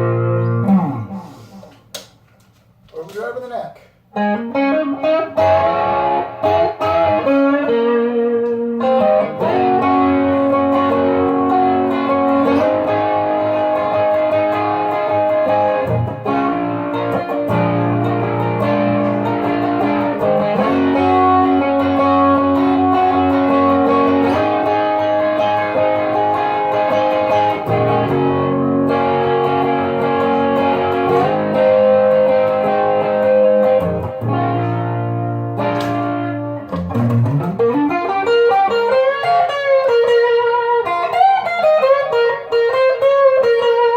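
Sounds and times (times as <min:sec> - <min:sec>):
overdriven electric guitar: 0:00.0 - 0:01.8, 0:04.1 - 0:43.9.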